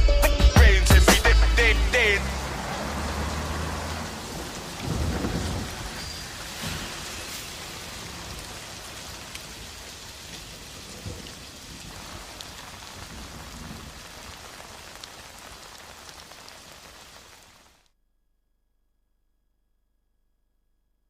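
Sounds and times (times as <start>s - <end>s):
heavy rain falling: 0.6s - 17.8s.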